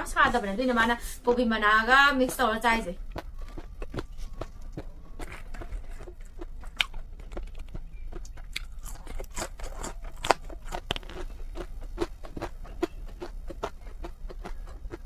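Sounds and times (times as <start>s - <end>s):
person chewing crunchy food: 2.2s - 15.0s.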